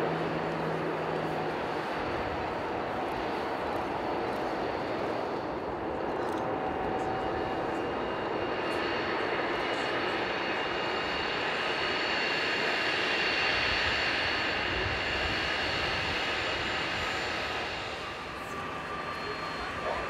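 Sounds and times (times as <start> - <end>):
jet engines whining while taxiing: 0.0 - 20.0.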